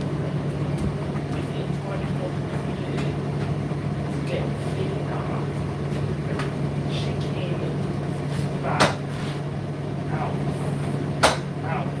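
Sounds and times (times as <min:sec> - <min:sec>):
tumble dryer running: 0:00.0 - 0:12.0.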